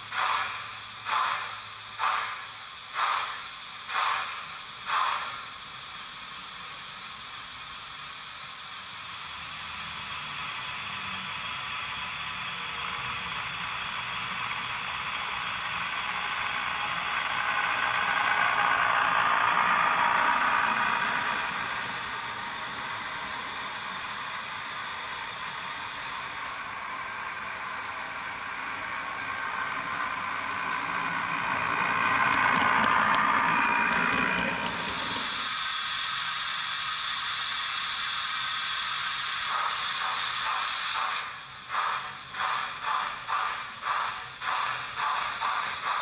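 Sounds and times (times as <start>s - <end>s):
model train whirring on track: 0.0s - 46.0s.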